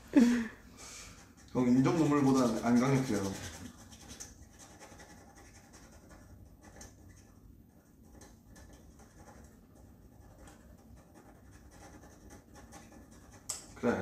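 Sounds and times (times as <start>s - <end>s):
pens scratching on paper: 1.1s - 13.7s.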